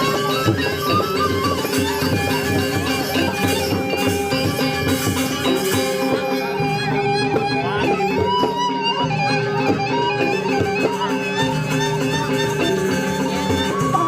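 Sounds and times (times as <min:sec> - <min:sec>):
gamelan music: 0:00.0 - 0:14.0.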